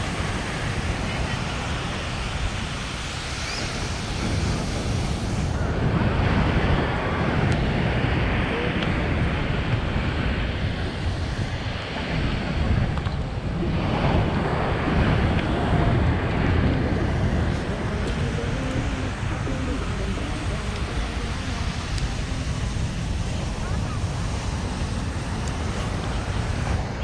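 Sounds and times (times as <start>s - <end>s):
surf washing onto beach: 0.0s - 27.0s
wind rumbling on microphone: 0.0s - 27.0s.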